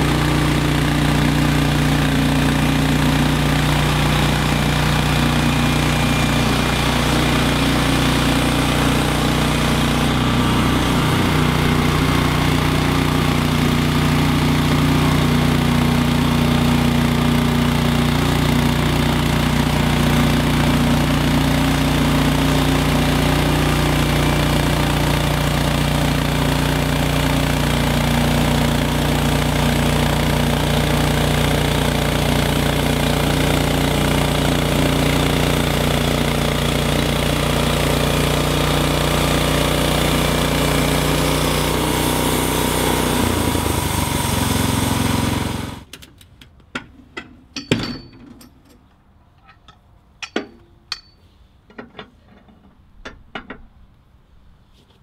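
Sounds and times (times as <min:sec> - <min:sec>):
bandsaw mill cutting log: 0:00.0 - 0:45.9.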